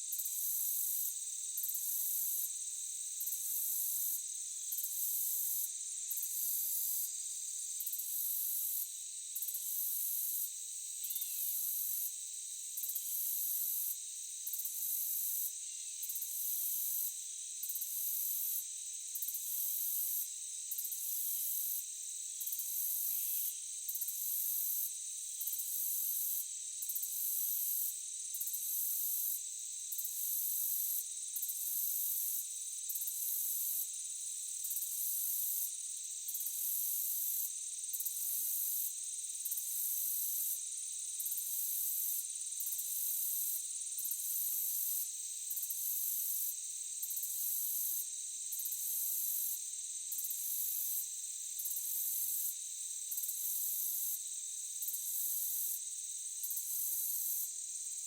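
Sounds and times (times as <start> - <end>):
forest insects droning: 0.0 - 58.0
high-pitched cricket trill: 0.0 - 58.0.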